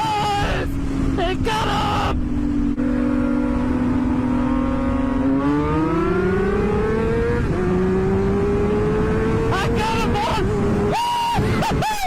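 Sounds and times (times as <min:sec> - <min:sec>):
wind rush on microphone: 0:00.0 - 0:12.0
motorcycle engine accelerating: 0:00.6 - 0:11.9.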